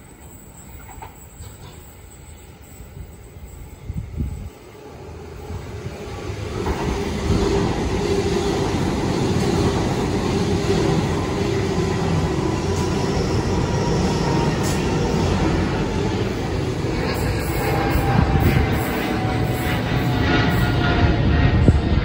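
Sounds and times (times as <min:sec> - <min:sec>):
electric train running: 0:00.2 - 0:22.0.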